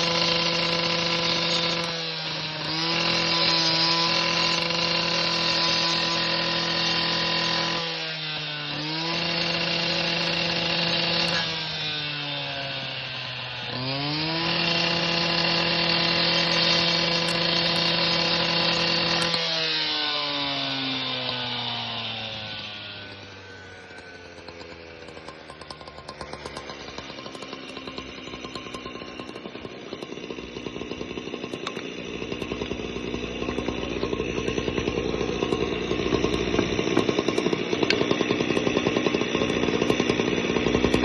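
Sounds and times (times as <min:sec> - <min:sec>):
angle grinder whining: 0:00.0 - 0:41.0.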